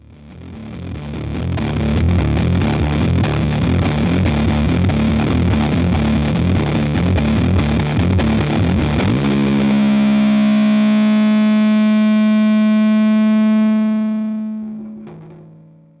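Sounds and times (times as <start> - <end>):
distorted guitar music: 0.0 - 16.0.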